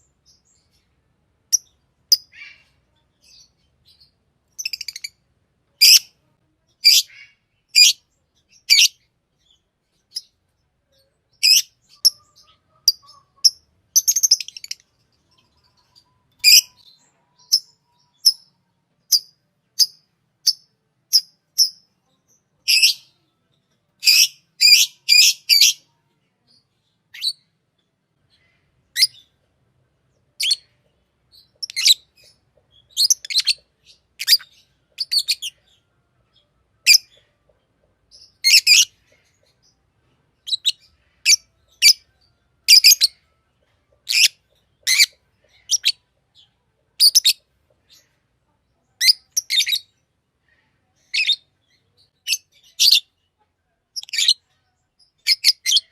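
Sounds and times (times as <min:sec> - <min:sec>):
lovebird chirping: 0:00.0 - 0:06.1, 0:06.7 - 0:27.6, 0:28.3 - 0:29.4, 0:30.2 - 0:37.5, 0:38.1 - 0:39.8, 0:40.4 - 0:43.3, 0:44.0 - 0:48.1, 0:48.9 - 0:49.9, 0:51.0 - 0:53.1, 0:54.0 - 0:55.9.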